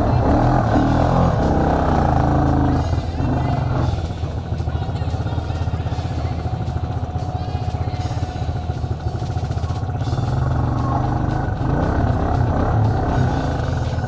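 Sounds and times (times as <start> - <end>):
atv engine climbing: 0.0 - 14.0.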